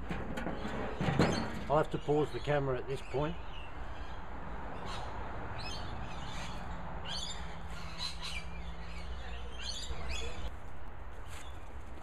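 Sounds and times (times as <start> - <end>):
birds chirping: 0.3 - 10.5.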